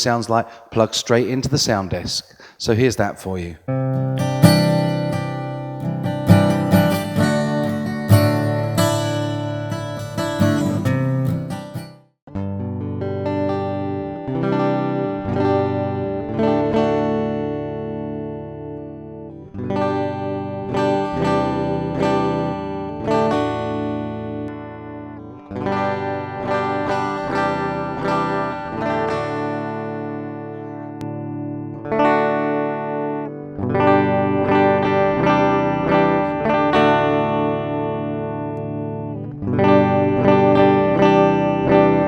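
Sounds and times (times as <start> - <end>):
clean electric guitar: 3.7 - 42.0.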